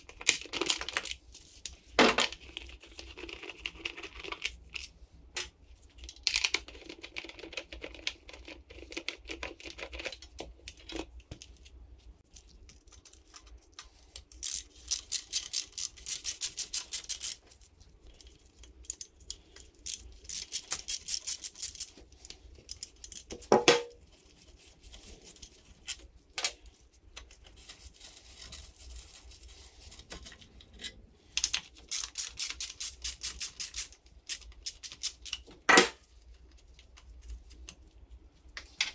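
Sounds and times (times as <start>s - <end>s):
rustling and handling of parts: 0.0s - 38.9s.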